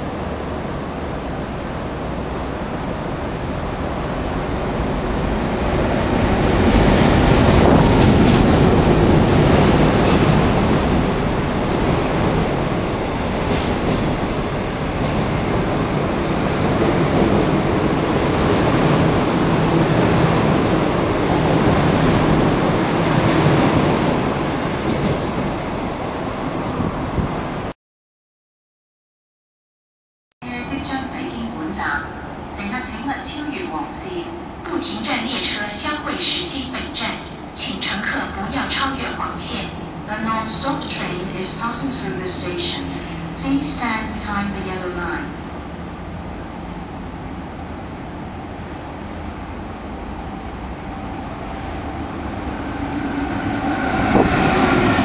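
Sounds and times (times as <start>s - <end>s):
passing train rumble and wheel noise: 0.0s - 27.7s, 30.4s - 55.0s.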